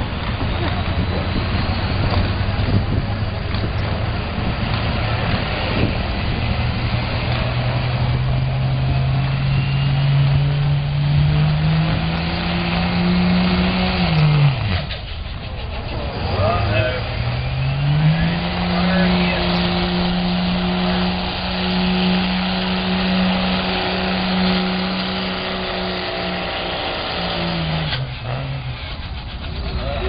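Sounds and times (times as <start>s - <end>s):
truck engine running hard: 0.0s - 30.0s.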